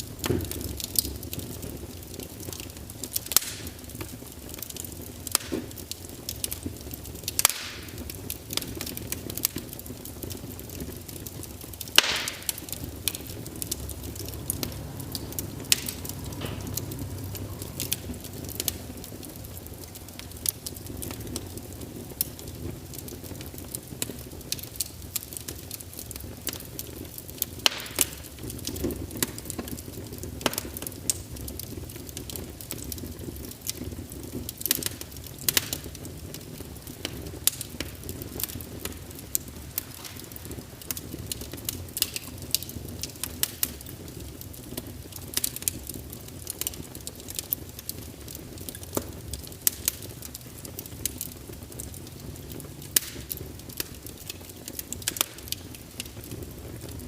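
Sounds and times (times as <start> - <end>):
fire popping and snapping: 0.0 - 57.0
low rumble of flames: 0.0 - 57.0
wood fire crackling: 0.0 - 57.0.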